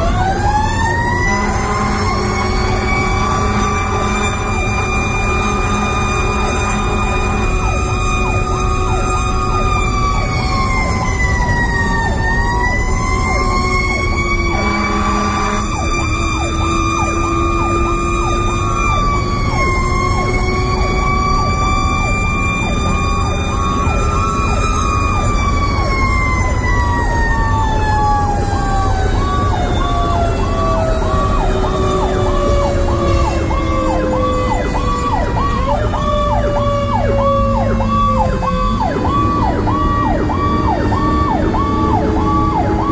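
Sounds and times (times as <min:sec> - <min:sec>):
electronic siren yelping: 0:00.0 - 0:42.9
siren wailing: 0:00.0 - 0:42.9
truck engine rumbling: 0:00.0 - 0:42.9.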